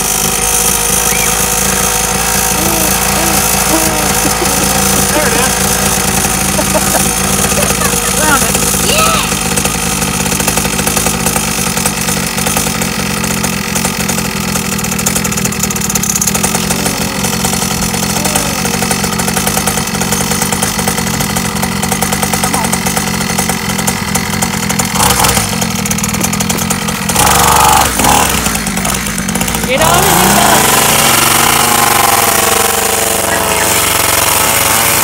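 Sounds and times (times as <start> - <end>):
dirt bike engine idling: 0.0 - 35.0.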